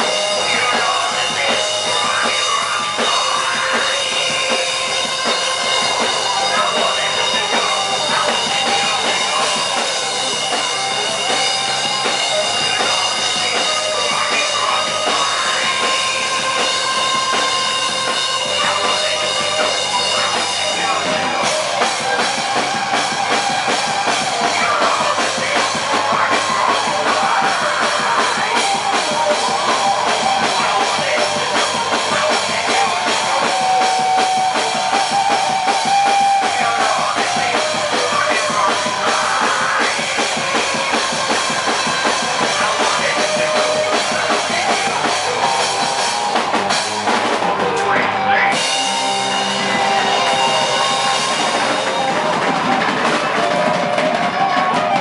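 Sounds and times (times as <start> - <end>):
electric guitar lead notes: 0.0 - 55.0
live rock band playing: 0.0 - 55.0.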